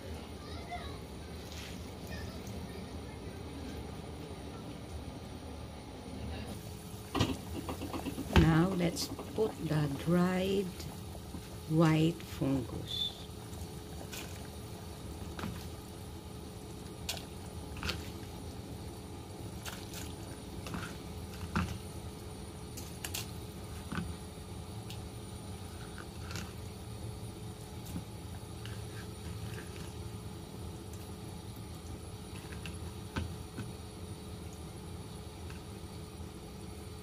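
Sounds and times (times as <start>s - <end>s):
soup boiling with pops: 6.6s - 37.0s.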